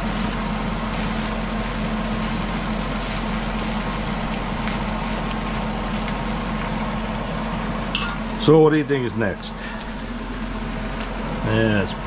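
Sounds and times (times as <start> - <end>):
constant low hum: 0.0 - 12.0
meat sizzling in a pan: 0.0 - 12.0.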